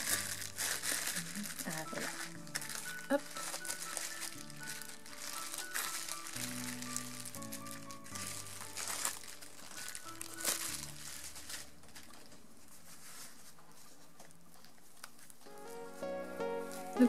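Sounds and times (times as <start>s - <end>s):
soft background music: 0.0s - 14.5s, 15.3s - 17.0s
bubble wrap crinkling: 0.0s - 17.0s.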